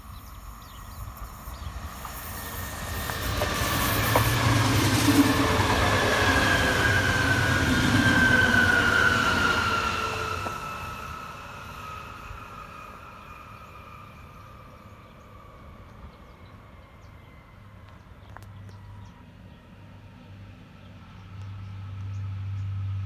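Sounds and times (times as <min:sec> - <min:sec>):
passing train high whine: 0:00.0 - 0:23.0.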